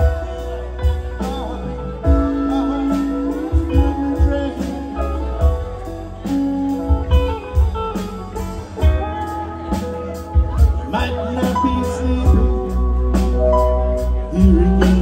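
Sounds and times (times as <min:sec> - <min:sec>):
bass: 0:00.0 - 0:15.0
drums: 0:00.0 - 0:15.0
electric guitars: 0:00.0 - 0:15.0
keyboard: 0:00.0 - 0:15.0
steel guitar: 0:00.0 - 0:15.0.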